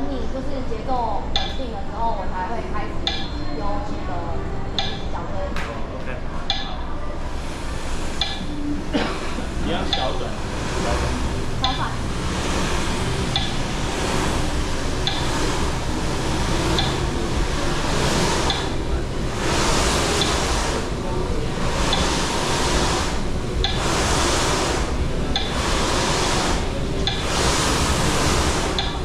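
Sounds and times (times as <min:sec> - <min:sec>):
treadmill rumble: 0:00.0 - 0:29.0.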